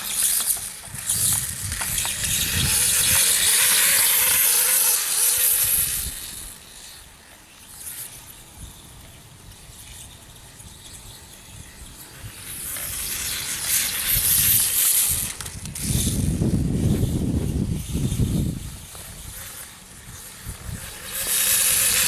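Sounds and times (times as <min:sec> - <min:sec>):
tyres scraping loose dirt: 0:00.0 - 0:22.0.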